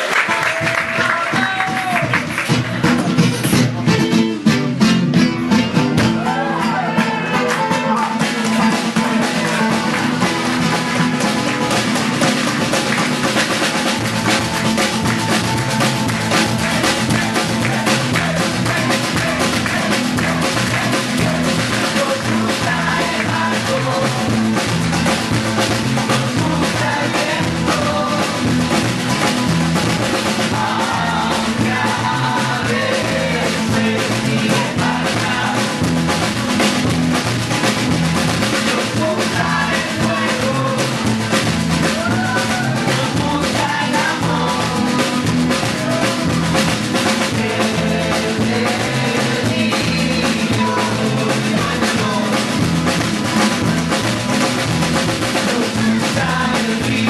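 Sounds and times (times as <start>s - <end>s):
bass guitar: 0.0s - 57.0s
drum kit beat: 0.0s - 57.0s
strummed guitars: 0.0s - 57.0s.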